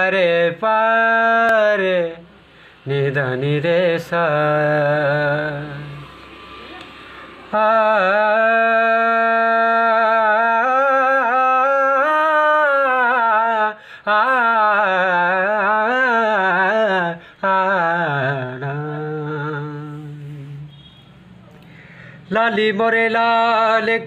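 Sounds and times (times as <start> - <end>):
man singing wordless held notes: 0.0 - 6.0, 7.6 - 20.7, 22.3 - 24.0.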